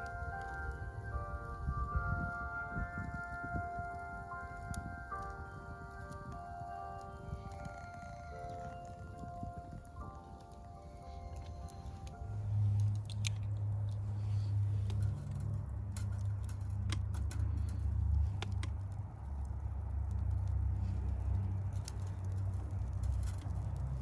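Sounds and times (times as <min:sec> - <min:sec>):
campfire crackling: 0:00.0 - 0:24.0
steady low rumble: 0:00.0 - 0:24.0.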